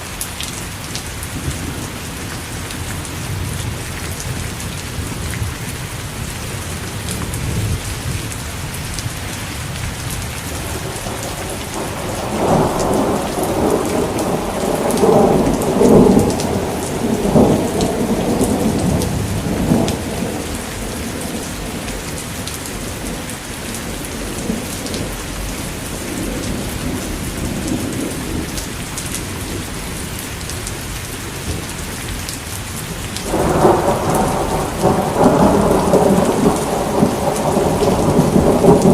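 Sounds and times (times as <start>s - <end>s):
heavy rain: 0.0s - 38.9s
thunder rumbling: 1.3s - 30.2s, 32.9s - 38.9s.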